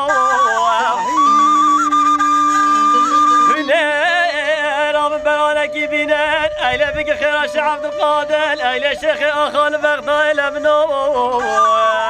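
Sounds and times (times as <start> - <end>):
folk melody over drone: 0.0 - 12.0.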